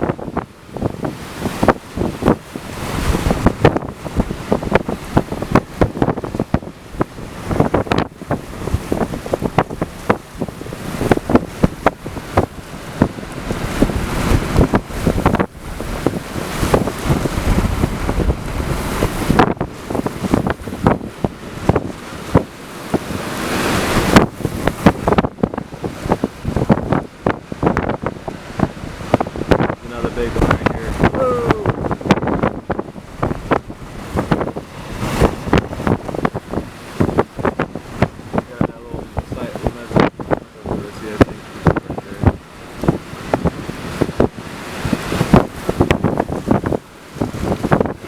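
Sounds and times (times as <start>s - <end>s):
strong wind gusting on microphone: 0.0s - 48.0s.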